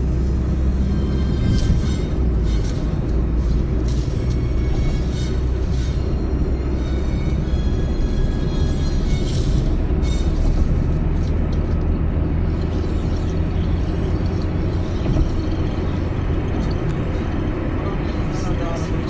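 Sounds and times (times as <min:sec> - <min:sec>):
car road noise at highway speed: 0:00.0 - 0:19.0.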